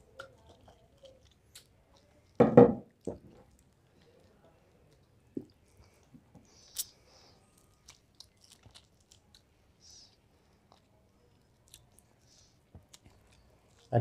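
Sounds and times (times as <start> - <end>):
wet chewing and lip-smacking: 0.0 - 14.0.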